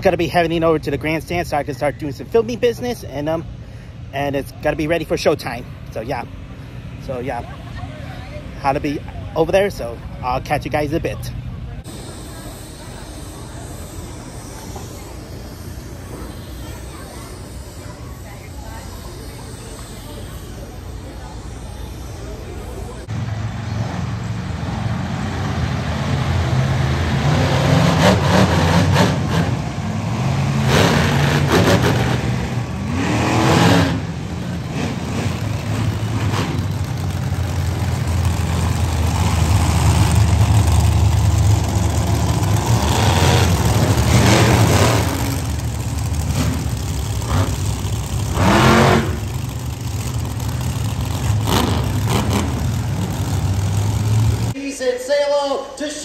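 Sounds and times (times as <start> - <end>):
monster truck engines revving: 0.0 - 54.6.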